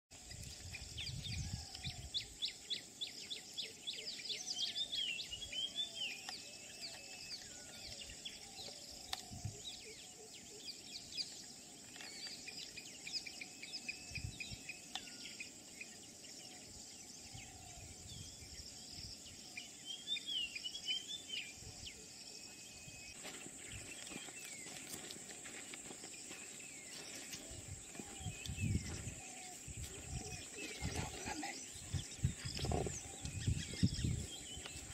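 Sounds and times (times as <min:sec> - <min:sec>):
birds singing: 0:00.1 - 0:34.9.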